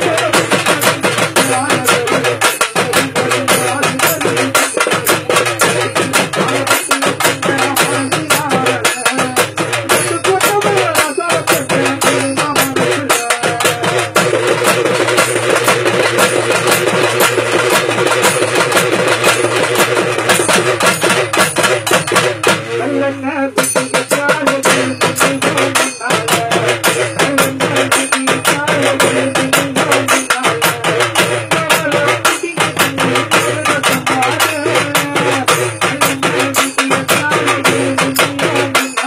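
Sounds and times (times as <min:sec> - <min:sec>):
drum ensemble playing: 0:00.0 - 0:39.0
rubbed drum tones: 0:00.0 - 0:39.0.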